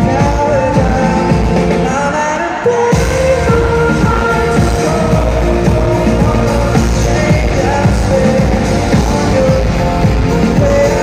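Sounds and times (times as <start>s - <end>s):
lead singer's voice: 0.0s - 11.0s
live pop-rock band: 0.0s - 11.0s.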